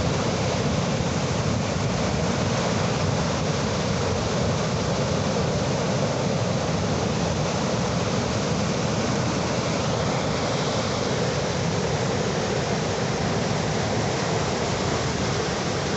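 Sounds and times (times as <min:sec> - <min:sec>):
sea surf rushing: 0:00.0 - 0:15.9.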